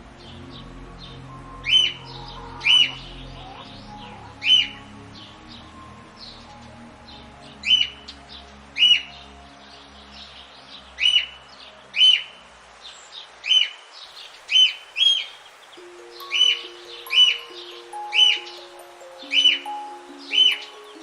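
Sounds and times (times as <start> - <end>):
soft music: 0.0 - 21.0.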